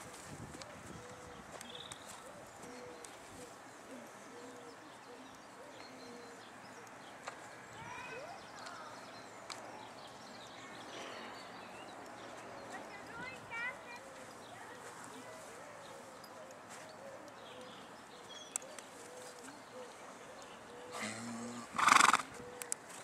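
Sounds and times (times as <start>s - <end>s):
birds chirping: 0.9s - 23.0s.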